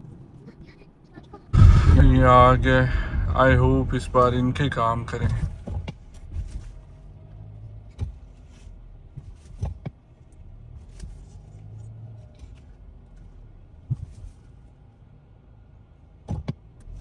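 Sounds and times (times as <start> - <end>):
car idling from inside cabin: 0.2 - 17.0.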